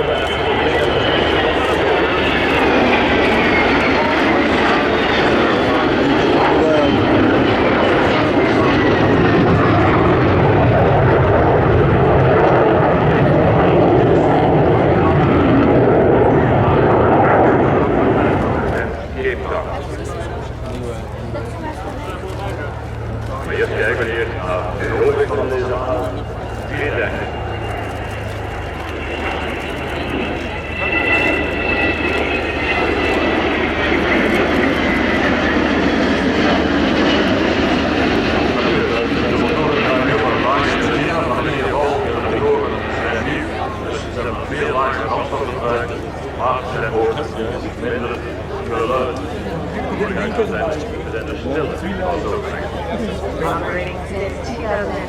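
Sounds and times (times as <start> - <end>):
airliner flying past: 0.0 - 55.0
jet aircraft engines roaring: 0.0 - 55.0.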